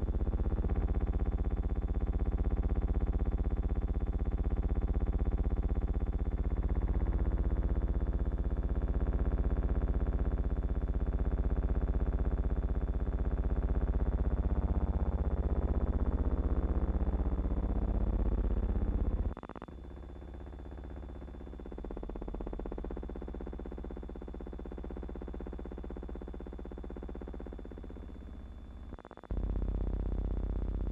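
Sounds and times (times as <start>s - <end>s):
low electrical buzz: 0.0s - 30.9s.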